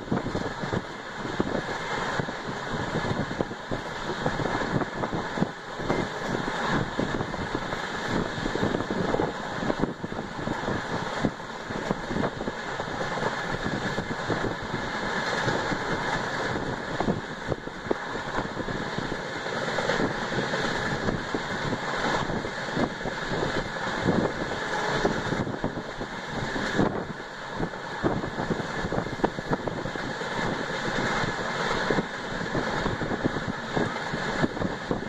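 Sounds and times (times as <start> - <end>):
train running at speed: 0.0 - 35.0.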